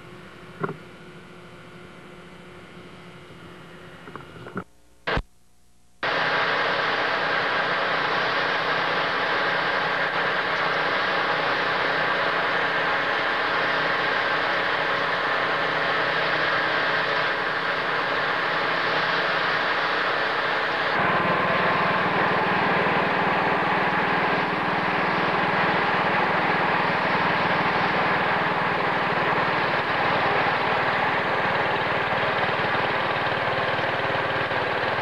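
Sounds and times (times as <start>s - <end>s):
snow blower running: 6.0s - 35.0s.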